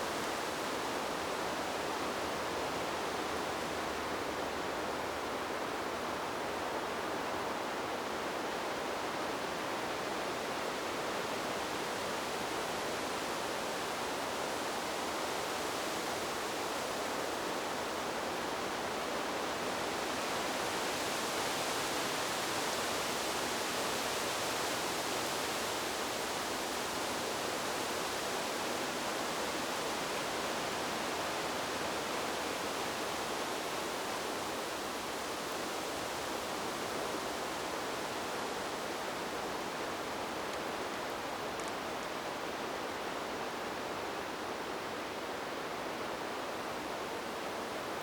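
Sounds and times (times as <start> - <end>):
wind blowing through trees: 0.0 - 48.0.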